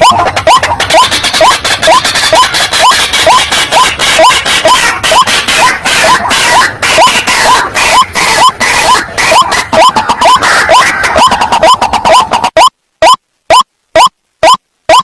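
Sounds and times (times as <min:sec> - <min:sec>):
waterhen harsh croaking call: 0:00.0 - 0:12.6.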